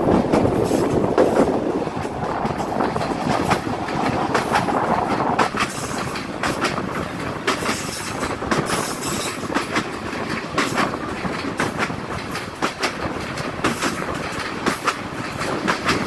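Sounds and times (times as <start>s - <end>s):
train rushing rumble: 0.0s - 16.0s
wheels clacking over rail joints: 0.0s - 16.0s.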